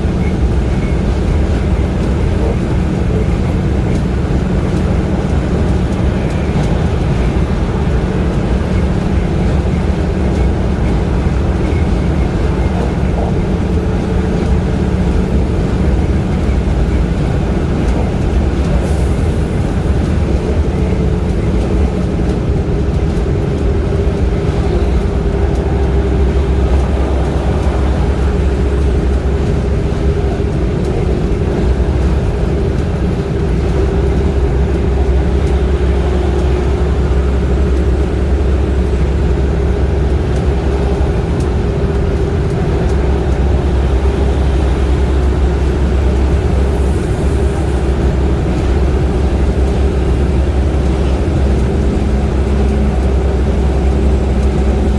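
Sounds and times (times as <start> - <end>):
vehicle driving at highway speed: 0.0 - 54.9.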